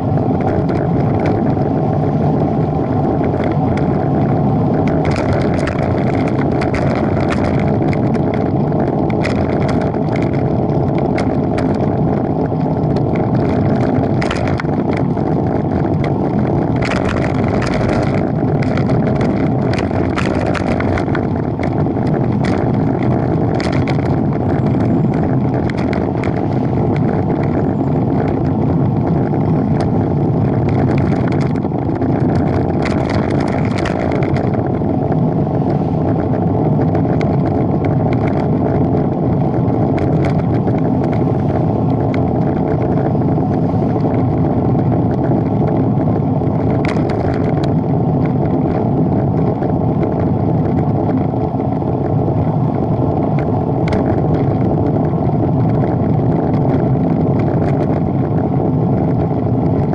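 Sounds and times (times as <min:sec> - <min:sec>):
bicycle rattles: 0:00.0 - 0:59.9
tyre and road noise: 0:00.0 - 0:59.9
wind rushing over microphone: 0:00.0 - 0:59.9.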